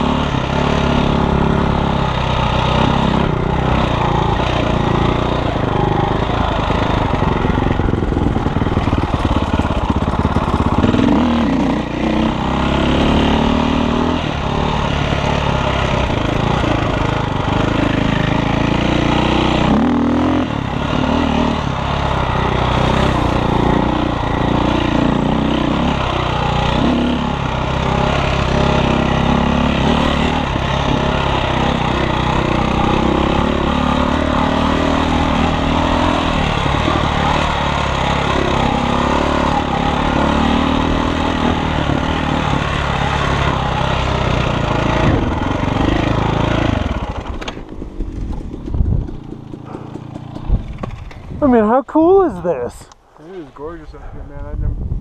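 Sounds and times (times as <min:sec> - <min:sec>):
dirt bike engine revving: 0:00.0 - 0:52.7.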